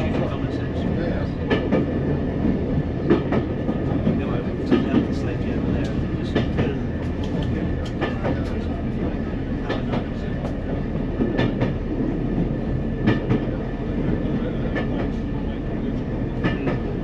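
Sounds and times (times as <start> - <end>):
railcar low rumble: 0.0 - 17.0.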